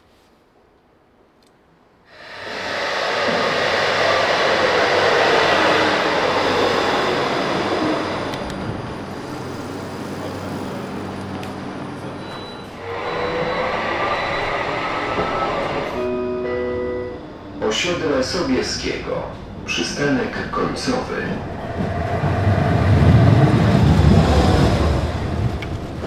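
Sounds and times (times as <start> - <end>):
electric tram rumbling and whining: 2.1 - 26.0.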